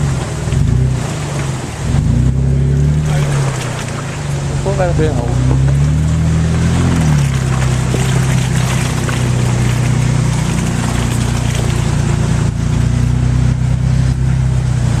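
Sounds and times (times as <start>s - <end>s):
off-road engine running: 0.0s - 15.0s
water splashing: 0.1s - 13.0s.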